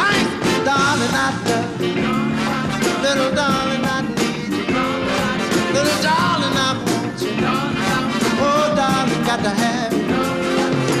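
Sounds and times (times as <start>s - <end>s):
live band playing soul: 0.0s - 11.0s
steady drum beat: 0.0s - 11.0s.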